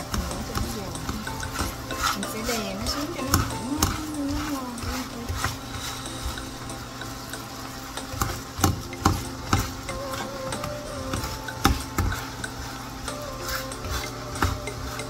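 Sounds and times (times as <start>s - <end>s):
frying sizzle: 0.0s - 15.0s
spatula scraping frying pan: 0.0s - 15.0s.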